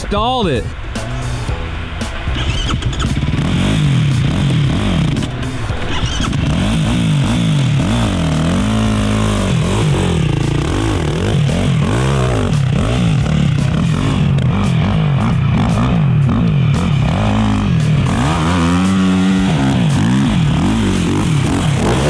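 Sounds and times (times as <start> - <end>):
quad engine revving: 0.7 - 22.0.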